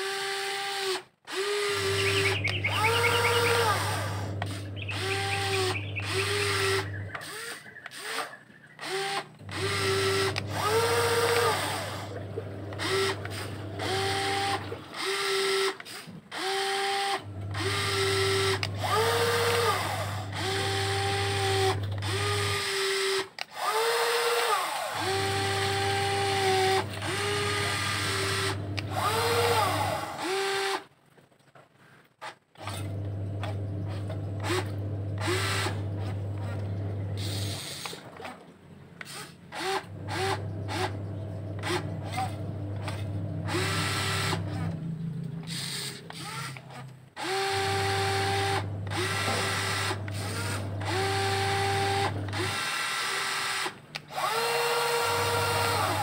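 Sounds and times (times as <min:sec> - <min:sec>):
toy excavator electric motors whining: 0:00.0 - 0:30.9, 0:32.2 - 0:56.0.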